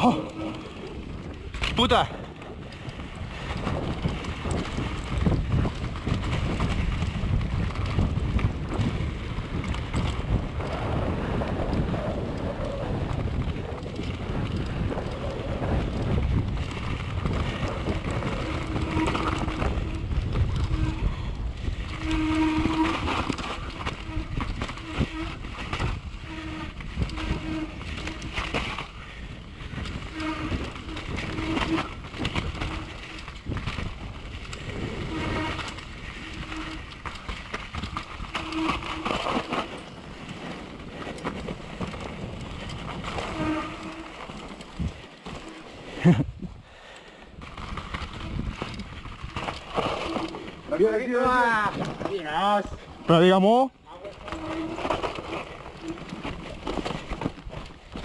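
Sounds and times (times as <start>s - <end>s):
bike chain and suspension rattling: 0.0s - 58.0s
tyres on dirt: 0.0s - 58.0s
wind rushing on microphone: 0.0s - 58.0s.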